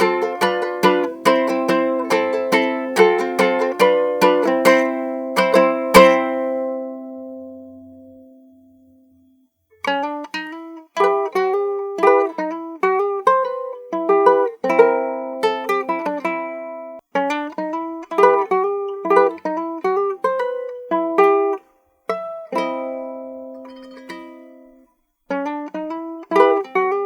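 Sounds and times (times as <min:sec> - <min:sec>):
plucked small guitar melody: 0:00.0 - 0:27.0.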